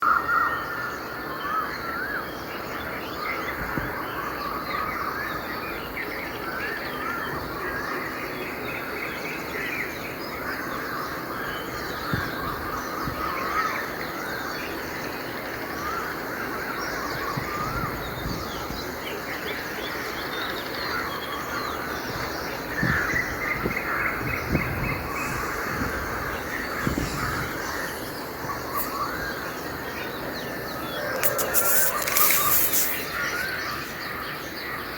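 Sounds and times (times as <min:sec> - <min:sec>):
birds singing and chirping: 0:00.0 - 0:34.9.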